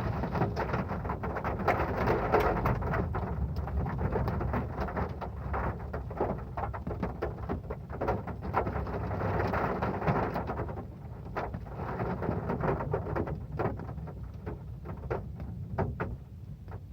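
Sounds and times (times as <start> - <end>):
heavy rain on metal roof: 0.0 - 16.9.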